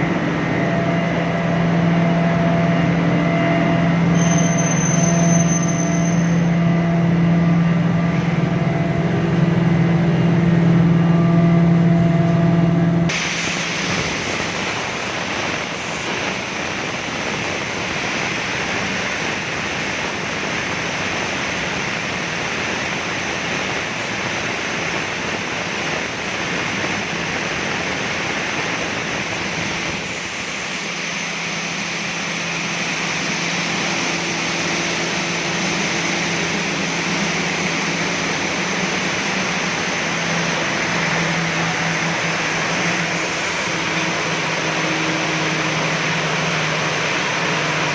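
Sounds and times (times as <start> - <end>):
blower fans rushing air: 0.0 - 4.2, 6.1 - 47.9
low machine hum: 0.0 - 47.9.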